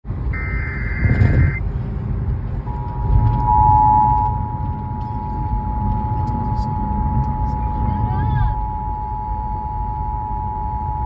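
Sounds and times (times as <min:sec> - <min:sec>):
low car rumble: 0:00.1 - 0:11.0
digital data tones: 0:00.3 - 0:01.6, 0:02.7 - 0:11.0
two-tone attention signal: 0:00.4 - 0:01.6, 0:02.7 - 0:11.0.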